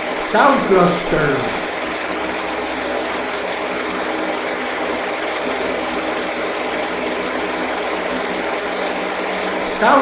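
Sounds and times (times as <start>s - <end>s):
electric fan running: 0.0s - 10.0s.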